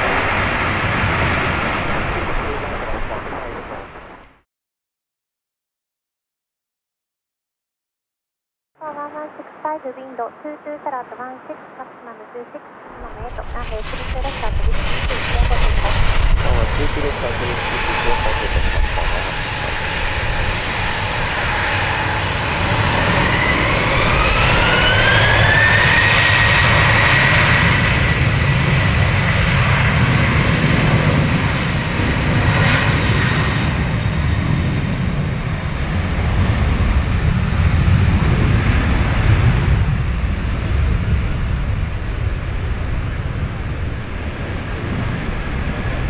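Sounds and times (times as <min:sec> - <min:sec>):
jet engines spooling up: 0:00.0 - 0:04.4, 0:13.0 - 0:46.0.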